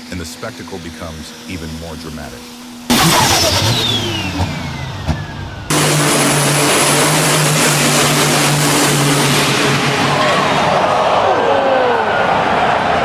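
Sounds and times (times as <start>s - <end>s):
tractor engines at full power: 0.0s - 12.4s
high whine falling in pitch: 0.0s - 13.0s.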